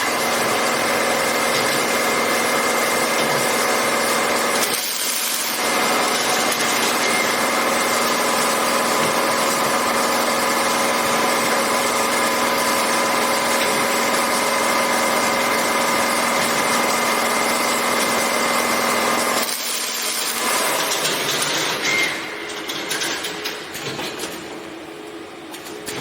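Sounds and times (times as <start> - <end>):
industrial machinery humming: 0.0 - 26.0.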